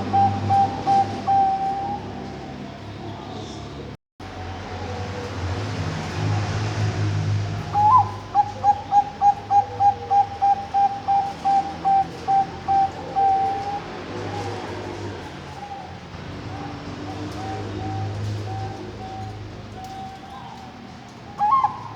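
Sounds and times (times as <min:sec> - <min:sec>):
dove cooing: 0:00.0 - 0:03.5, 0:07.6 - 0:21.9.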